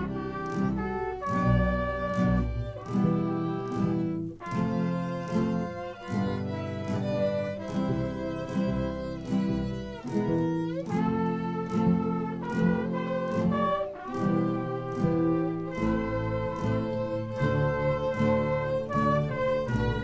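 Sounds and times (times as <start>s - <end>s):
guitars strumming chords: 0.0s - 20.0s
violins and trumpets melody: 0.0s - 20.0s.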